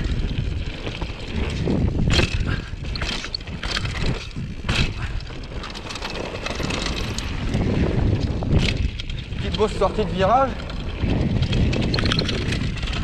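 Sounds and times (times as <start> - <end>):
bike knocking and clattering: 0.0 - 13.0
bike tyres rolling on dirt: 0.0 - 13.0.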